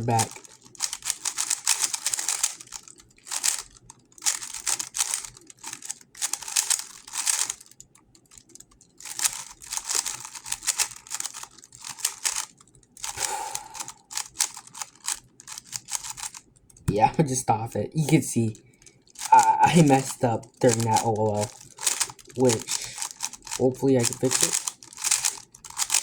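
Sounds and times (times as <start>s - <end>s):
rapid plastic clicking of puzzle cube: 0.0s - 17.0s, 18.4s - 26.0s.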